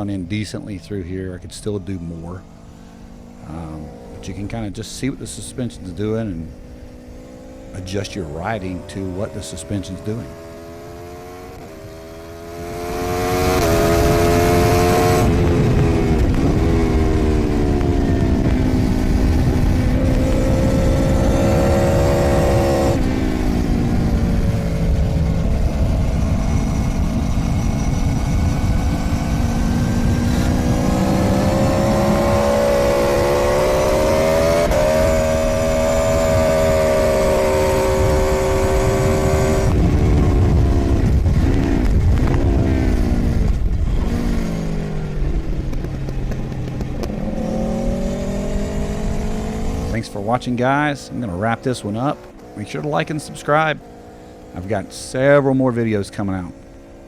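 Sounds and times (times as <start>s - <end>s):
motorcycle engine accelerating: 0.0s - 57.0s
wind noise: 3.8s - 53.8s.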